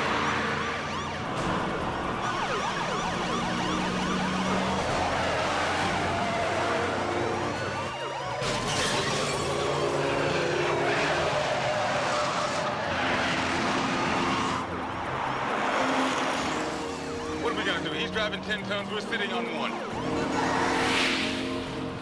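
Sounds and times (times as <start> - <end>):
police sirens wailing: 0.0 - 22.0
vehicle engines at speed: 0.0 - 22.0.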